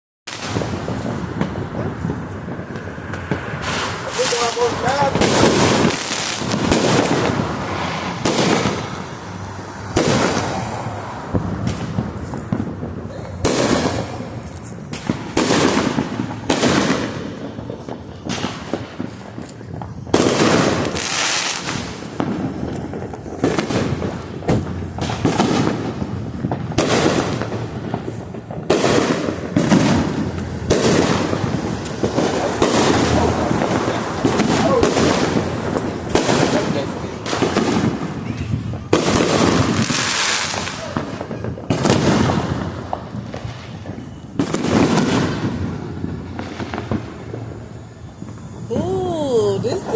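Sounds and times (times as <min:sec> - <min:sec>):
fireworks bangs and crackles: 0:00.3 - 0:49.9.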